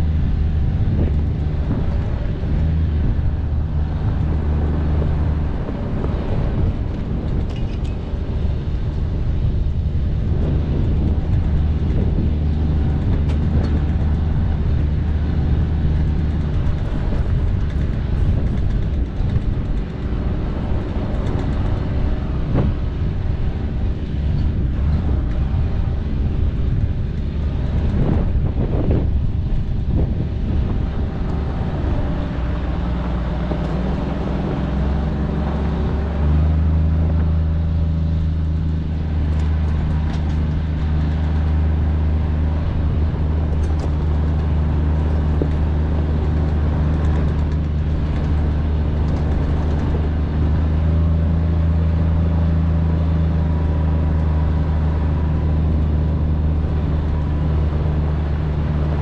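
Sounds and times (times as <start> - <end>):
vehicle driving on gravel: 0.0 - 59.0.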